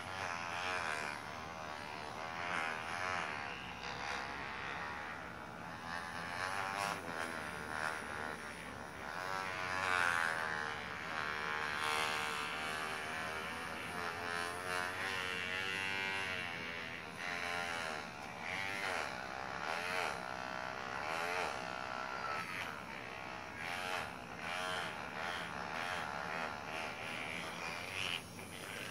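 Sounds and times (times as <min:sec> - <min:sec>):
vibrating massager buzzing: 0:00.0 - 0:28.9.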